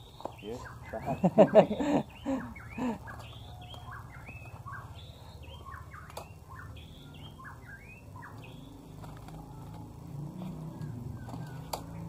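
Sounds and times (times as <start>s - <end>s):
small songbird chirping: 0.0s - 12.0s.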